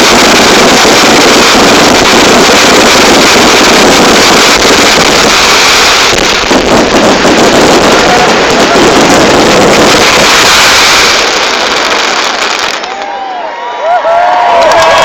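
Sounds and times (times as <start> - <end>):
fireworks crackling: 0.0 - 13.2.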